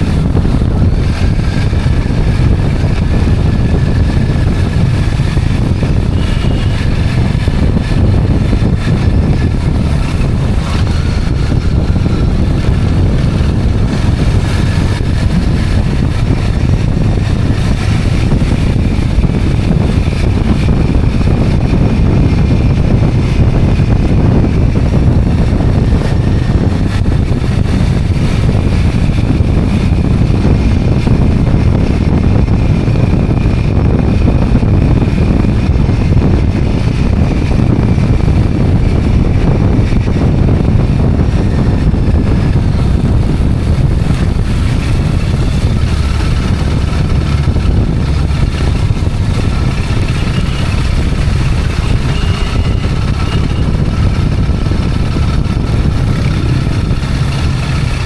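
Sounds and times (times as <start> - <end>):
motorcycle running: 0.0 - 58.0
wind rumble on microphone: 0.0 - 58.0.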